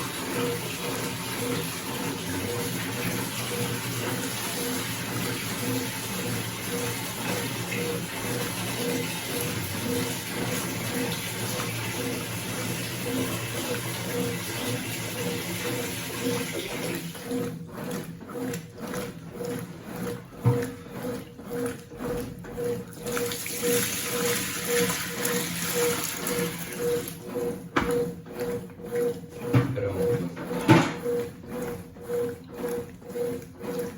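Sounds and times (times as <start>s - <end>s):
washing machine motor hum: 0.0s - 33.9s
water sloshing in washing machine: 0.0s - 33.9s.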